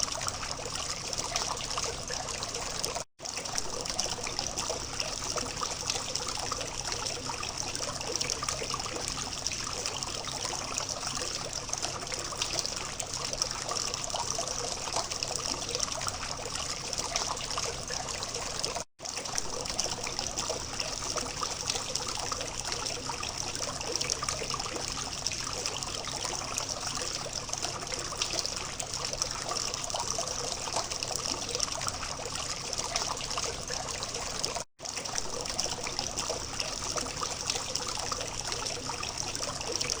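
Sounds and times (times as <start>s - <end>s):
fountain water trickling and splashing: 0.0s - 40.0s.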